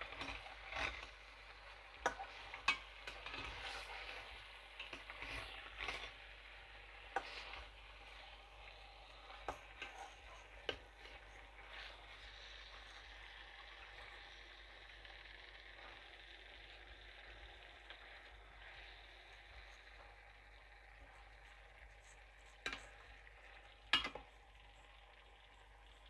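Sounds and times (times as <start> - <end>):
chicken sizzling in a pan: 0.0 - 26.0.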